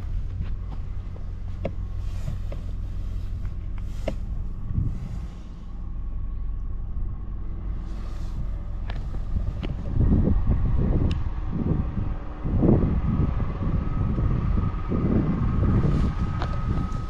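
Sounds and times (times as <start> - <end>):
engine idling hum: 0.0 - 17.0
wind rumble on microphone: 0.0 - 17.0.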